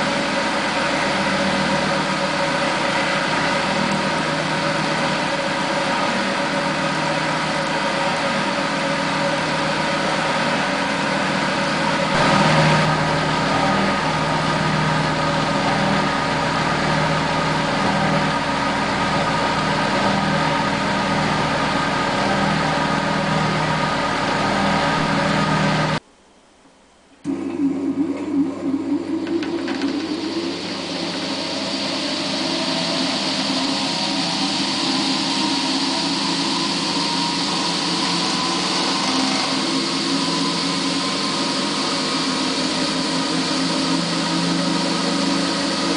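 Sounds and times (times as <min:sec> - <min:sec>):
spin dryer motor humming: 0:00.0 - 0:26.1, 0:27.2 - 0:45.9.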